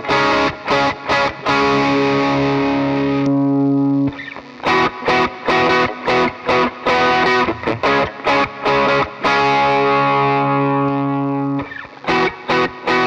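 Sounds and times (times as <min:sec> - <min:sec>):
distorted electric guitar chugging: 0:00.0 - 0:13.0.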